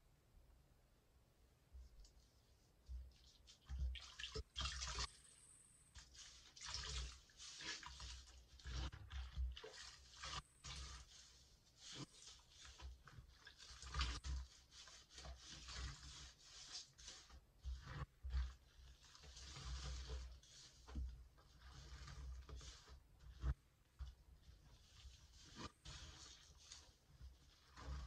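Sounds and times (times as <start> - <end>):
sponges squelching in water: 2.0 - 28.0.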